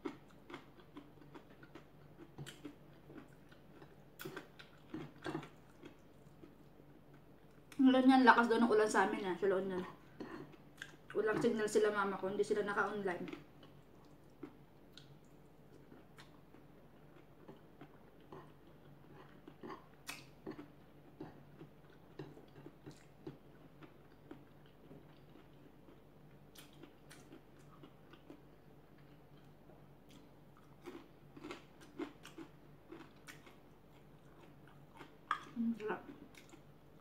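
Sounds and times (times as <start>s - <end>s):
person chewing food: 0.0s - 7.8s, 9.7s - 11.2s, 13.3s - 37.0s.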